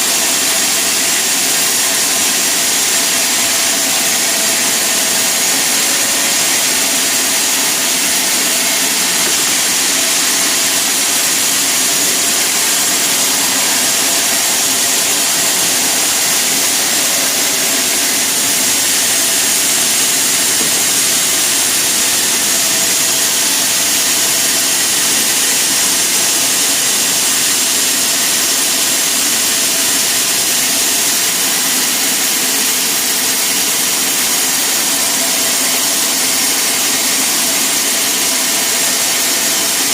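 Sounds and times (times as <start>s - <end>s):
sawmill saw machinery hissing: 0.0s - 39.9s.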